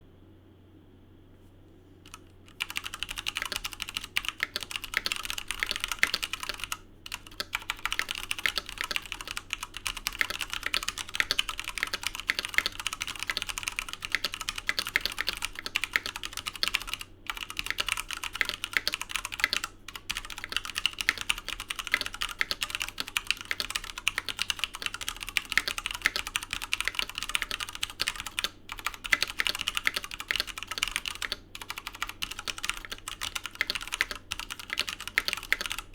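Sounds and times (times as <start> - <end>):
mechanical keyboard typing: 2.1 - 35.9.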